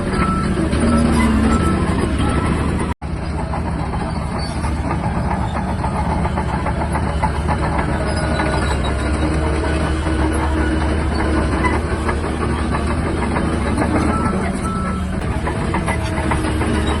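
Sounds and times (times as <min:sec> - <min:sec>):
bulldozer diesel engine running: 0:00.0 - 0:17.0
steel tracks clanking: 0:00.0 - 0:17.0.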